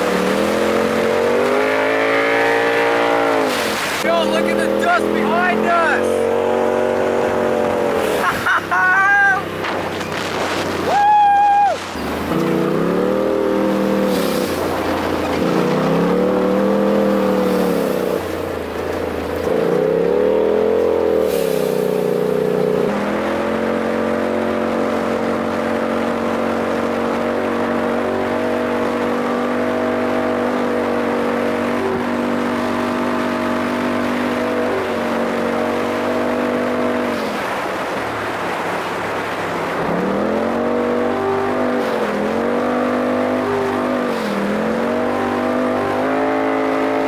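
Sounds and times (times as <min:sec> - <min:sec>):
off-road vehicle engine: 0:00.0 - 0:47.0.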